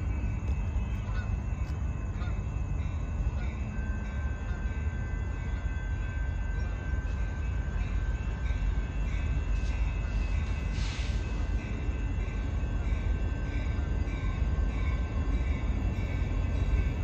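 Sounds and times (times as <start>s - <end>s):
distant freight train rumble: 0.0s - 17.0s
faint steady high tones: 0.0s - 17.0s.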